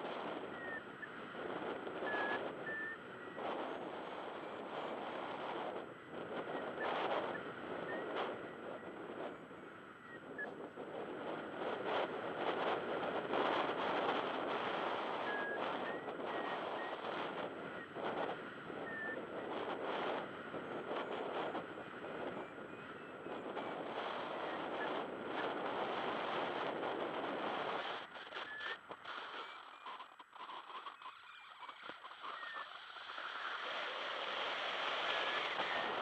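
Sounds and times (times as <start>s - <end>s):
wind rushing over microphone: 0.0s - 36.0s.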